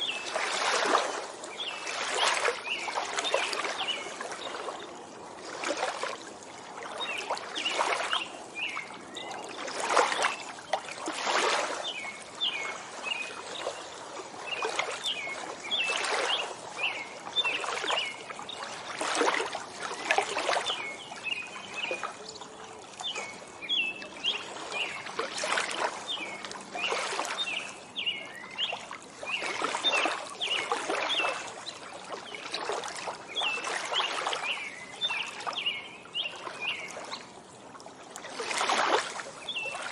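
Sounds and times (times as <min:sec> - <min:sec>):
small waves lapping and splashing: 0:00.0 - 0:39.9
songbirds chirping: 0:00.0 - 0:39.9.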